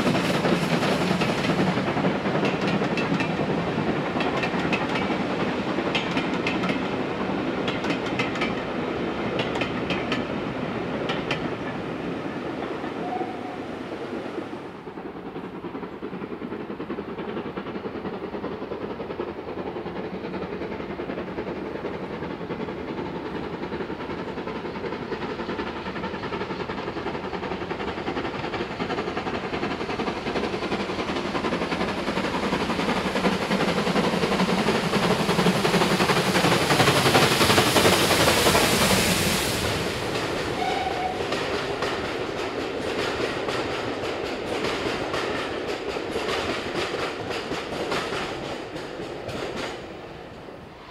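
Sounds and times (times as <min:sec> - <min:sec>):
train wheels clattering over rails: 0:00.0 - 0:13.4, 0:14.6 - 0:50.7
steam locomotive: 0:00.0 - 0:50.9.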